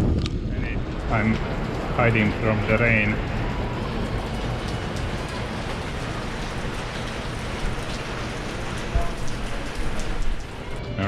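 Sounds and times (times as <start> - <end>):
rain pattering overhead: 0.0 - 11.0
drops ticking: 0.5 - 10.8.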